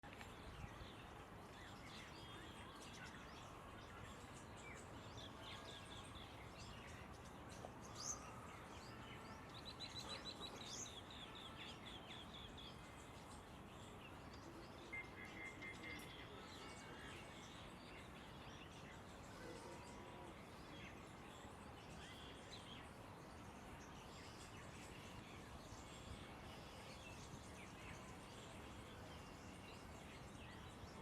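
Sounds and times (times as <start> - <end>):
background hiss: 0.0 - 31.0
birds chirping and calling: 0.1 - 31.0.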